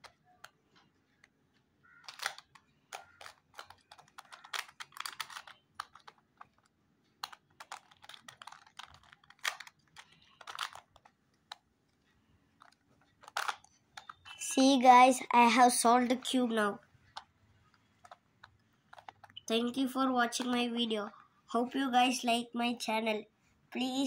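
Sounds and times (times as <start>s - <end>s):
plastic puzzle clicking: 0.0s - 20.8s.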